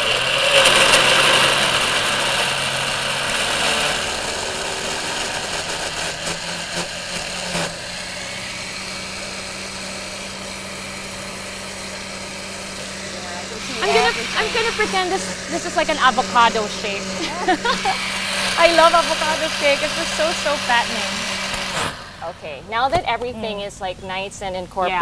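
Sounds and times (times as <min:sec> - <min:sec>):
electric blender motor whir: 0:00.0 - 0:22.6.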